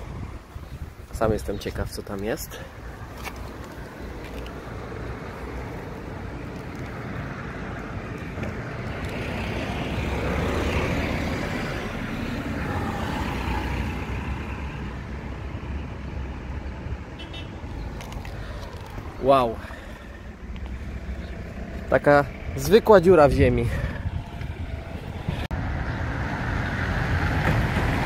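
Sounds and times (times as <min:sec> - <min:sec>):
road vehicle passing: 0:00.0 - 0:28.0.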